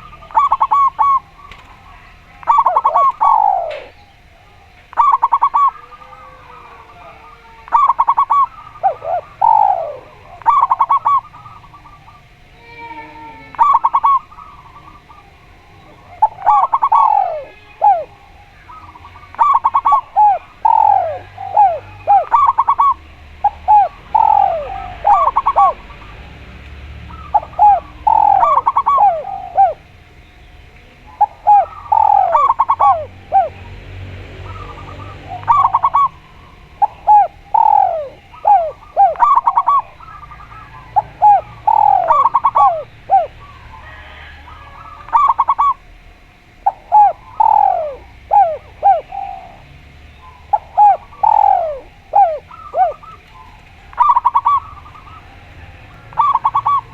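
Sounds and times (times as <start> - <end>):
doves cooing: 0.0 - 56.9.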